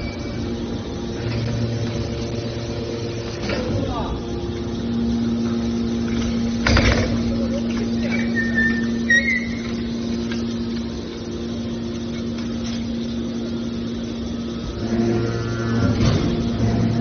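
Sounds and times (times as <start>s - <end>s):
deep machine tone: 0.0s - 17.0s
hydraulic baler pump hum: 0.0s - 17.0s.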